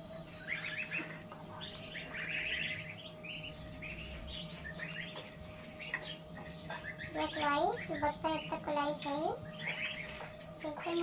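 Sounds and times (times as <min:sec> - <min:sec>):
ducklings and goslings peeping: 0:00.0 - 0:11.0.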